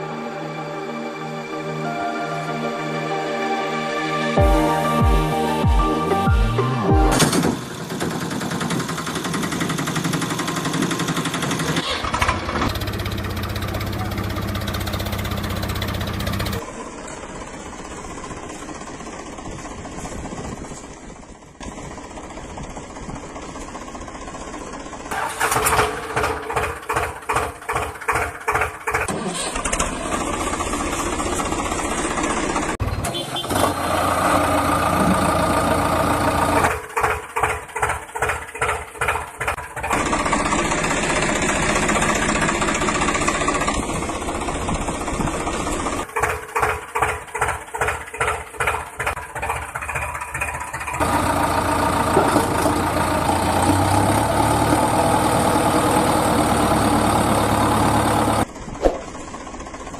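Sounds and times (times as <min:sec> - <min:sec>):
heavy vehicle engine chugging: 0:04.4 - 0:59.9.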